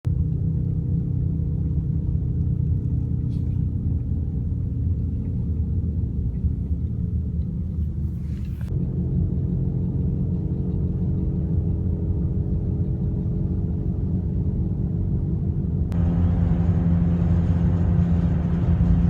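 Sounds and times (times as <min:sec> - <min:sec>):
wheel bearing low drone: 0:00.1 - 0:19.0.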